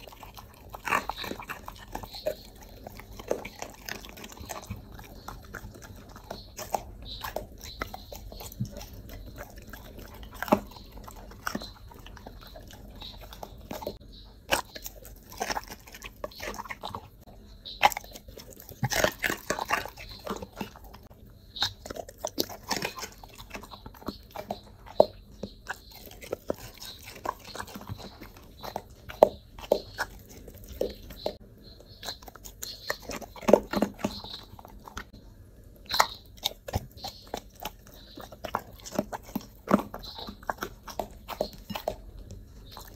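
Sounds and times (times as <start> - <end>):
dog chewing crunchy vegetables: 0.0 - 42.9.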